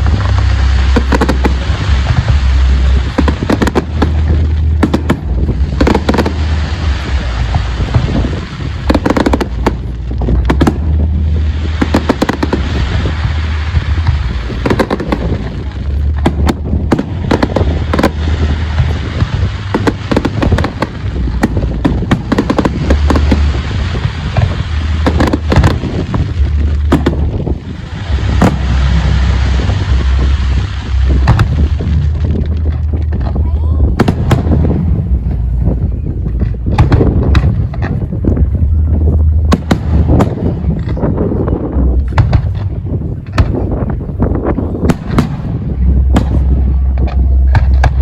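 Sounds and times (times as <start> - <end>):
fireworks bangs and crackles: 0.0 - 48.0
low rumble: 0.0 - 48.0.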